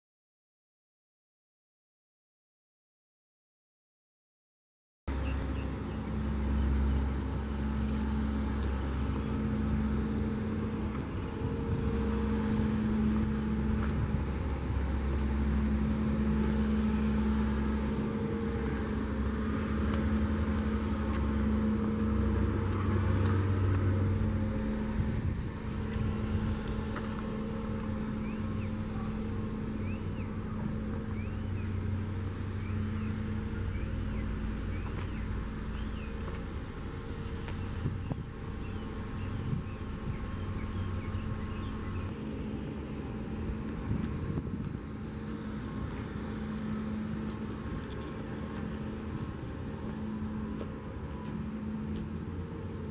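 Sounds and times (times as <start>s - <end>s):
diesel engine idling: 5.1s - 52.9s.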